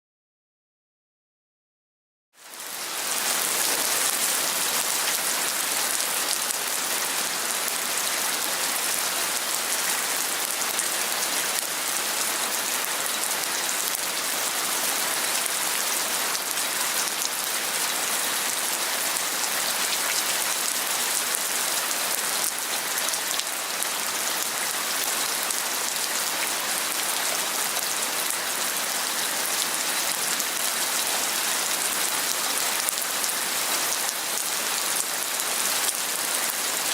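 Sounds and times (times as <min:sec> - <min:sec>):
heavy rain falling: 0:02.4 - 0:36.9.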